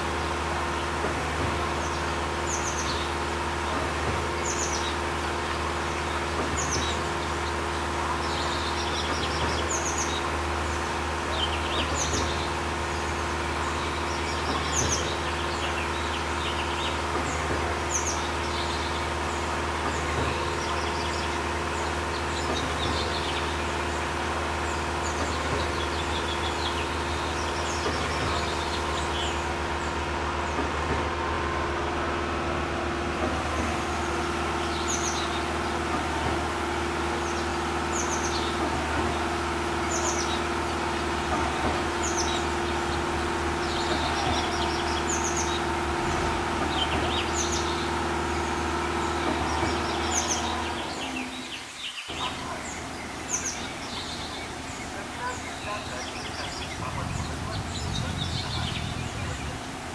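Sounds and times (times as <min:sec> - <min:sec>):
low mechanical hum: 0:00.0 - 0:59.9
small birds chirping: 0:00.0 - 0:59.9.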